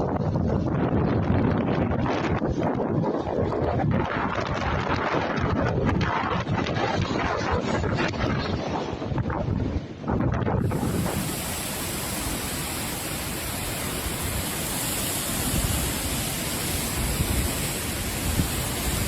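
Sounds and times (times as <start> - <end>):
storm rushing noise: 0.0 - 19.0
wind rumbling over microphone: 0.0 - 19.0.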